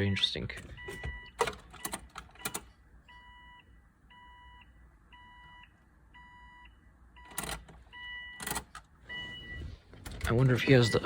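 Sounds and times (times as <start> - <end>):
car warning chime beeping: 0.0 - 11.0.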